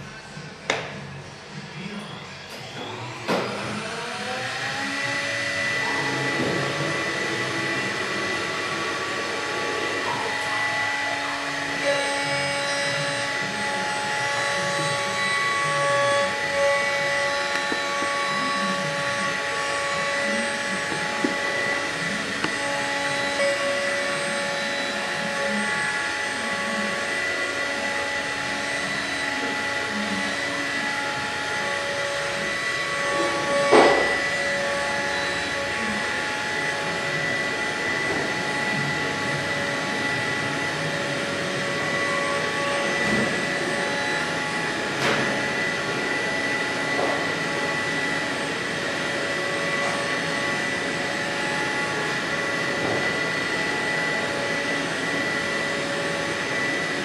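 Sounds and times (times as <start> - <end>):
milling machine spindle whine: 0.0 - 57.0
end mill cutting plastic: 2.5 - 57.0.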